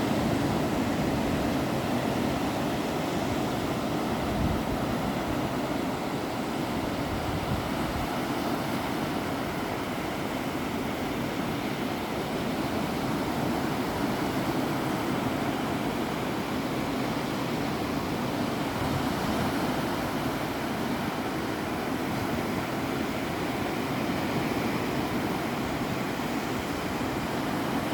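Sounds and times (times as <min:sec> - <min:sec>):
ocean surf on a beach: 0:00.0 - 0:27.9.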